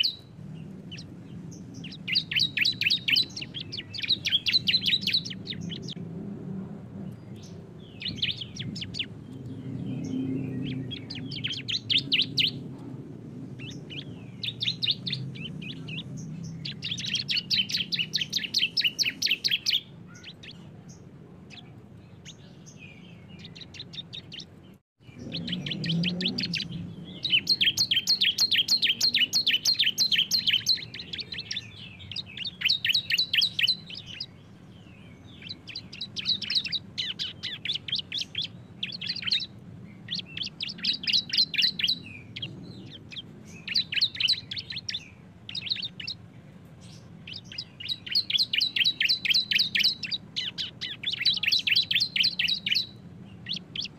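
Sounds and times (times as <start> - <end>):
birds singing rapid chattering song: 0.0 - 53.9.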